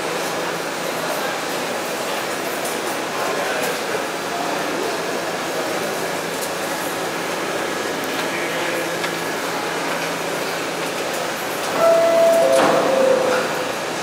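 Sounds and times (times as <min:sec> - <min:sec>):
train air-conditioning hum and hiss: 0:00.0 - 0:14.0.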